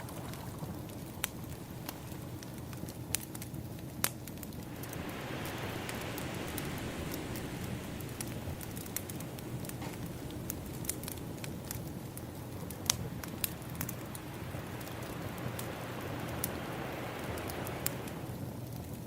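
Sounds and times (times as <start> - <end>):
ocean waves: 0.0 - 19.0
wood fire crackling: 0.0 - 19.0.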